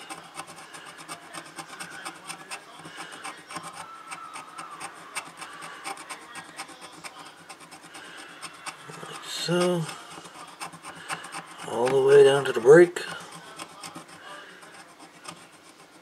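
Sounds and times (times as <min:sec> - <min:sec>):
metal tool scratching circuit board: 0:00.0 - 0:16.0.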